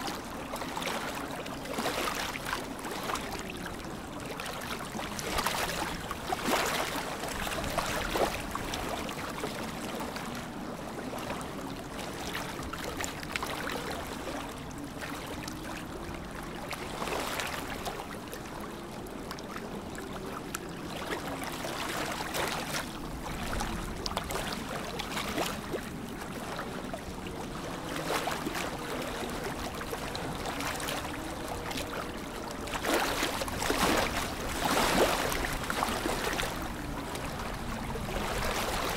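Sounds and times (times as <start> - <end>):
lake water lapping: 0.0 - 38.9.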